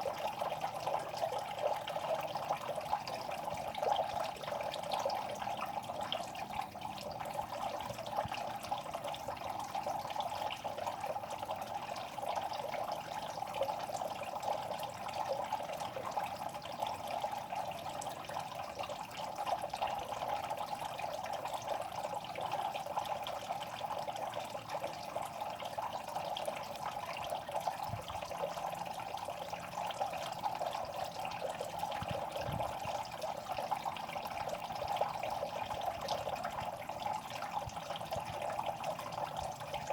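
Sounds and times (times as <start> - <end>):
water trickling with small pops: 0.0 - 39.9.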